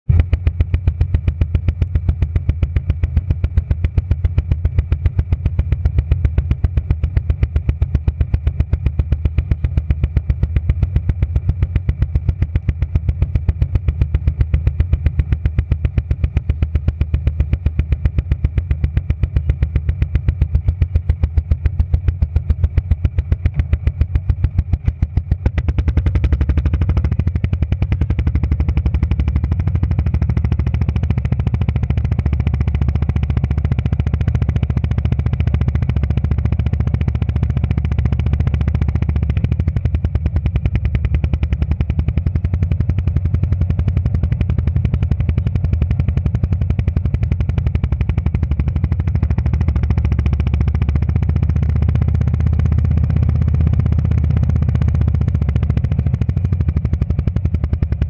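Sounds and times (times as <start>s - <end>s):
motorcycle engine idling: 0.1s - 58.0s.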